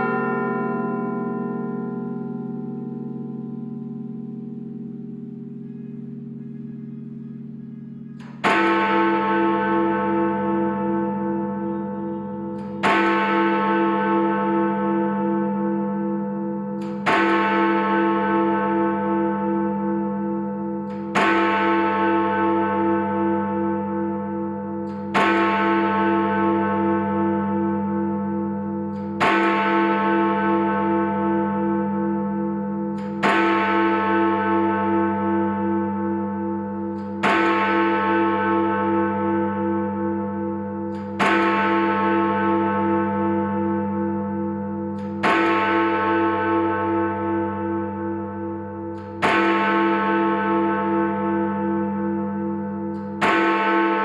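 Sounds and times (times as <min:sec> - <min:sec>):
large bell striking: 0:00.0 - 0:54.0.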